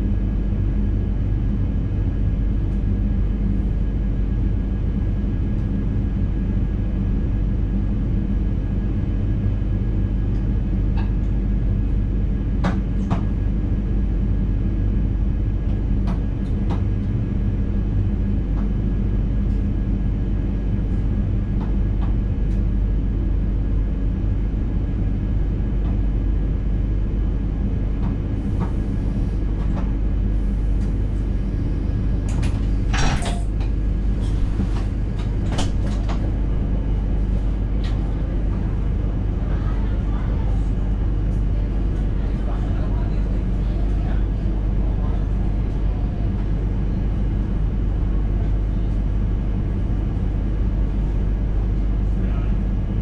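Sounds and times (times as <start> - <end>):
train cab rumble and hum: 0.0 - 53.0.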